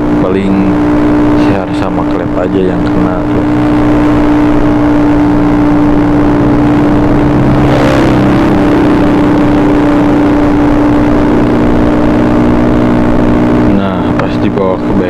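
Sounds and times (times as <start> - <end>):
scooter engine droning: 0.0 - 15.0.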